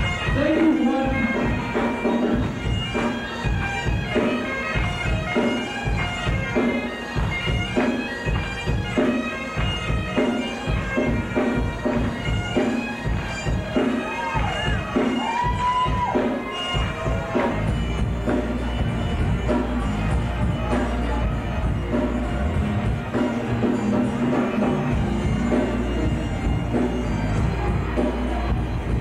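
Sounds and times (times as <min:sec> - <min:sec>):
bagpipes melody and drone: 0:00.0 - 0:29.0
drums beating: 0:00.0 - 0:29.0
rock band playing live: 0:00.0 - 0:29.0.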